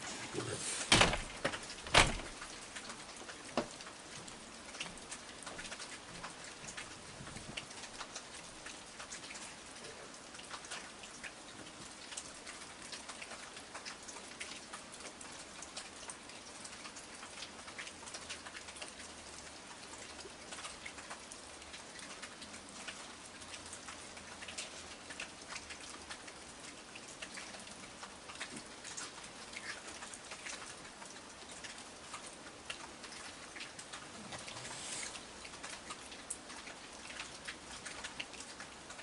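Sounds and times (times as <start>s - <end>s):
rain pattering on hard surfaces: 0.0s - 39.0s.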